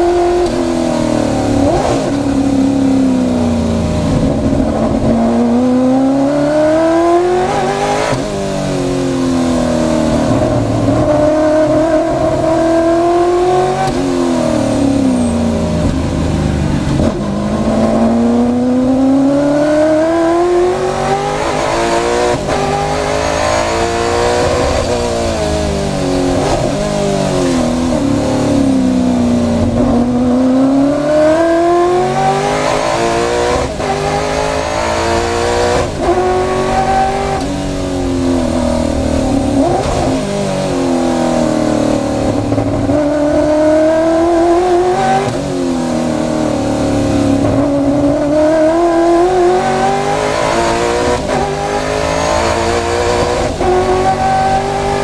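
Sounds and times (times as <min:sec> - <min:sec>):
race car engine: 0:00.0 - 0:55.0.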